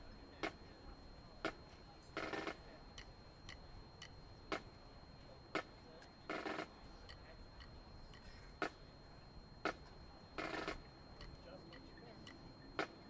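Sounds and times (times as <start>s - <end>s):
faint regular ticking: 0.4s - 4.8s, 5.5s - 13.0s.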